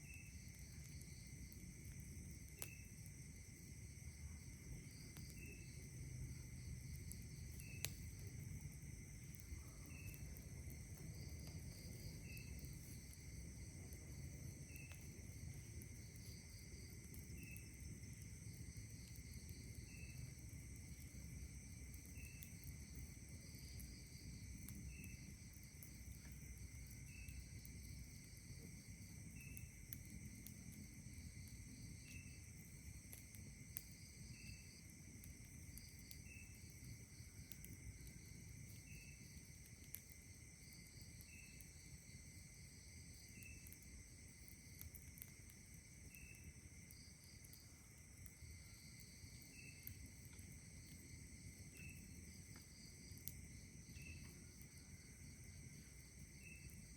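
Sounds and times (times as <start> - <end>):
campfire crackles: 0.0 - 56.9
insect chirp: 0.0 - 56.9
insects trilling: 0.0 - 56.9.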